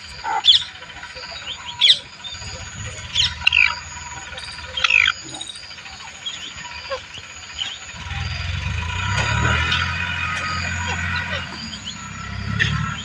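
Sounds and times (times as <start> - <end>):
bird calling shrill notes: 0.0 - 13.0.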